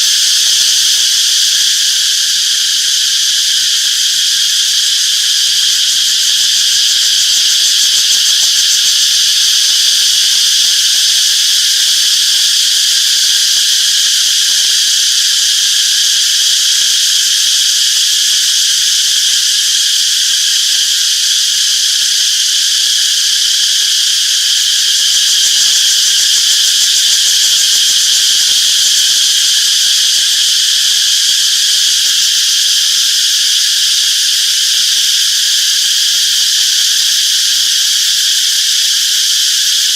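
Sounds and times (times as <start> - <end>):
cicadas buzzing chorus: 0.0 - 39.9.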